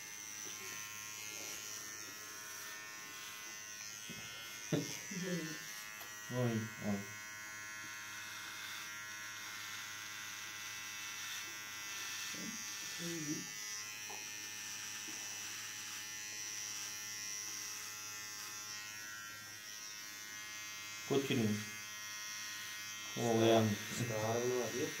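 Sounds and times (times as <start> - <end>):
electric hair clipper buzzing: 0.0 - 25.0.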